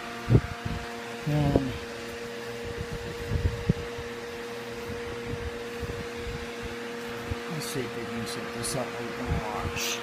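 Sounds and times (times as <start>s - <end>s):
background hum with held tone: 0.0s - 10.0s.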